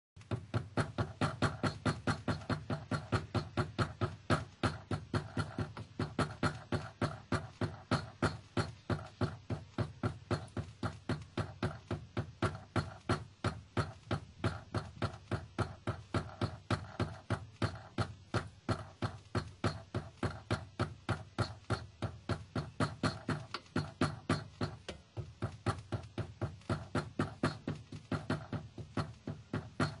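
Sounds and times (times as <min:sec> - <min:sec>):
loose car part knocking: 0:00.2 - 0:30.0.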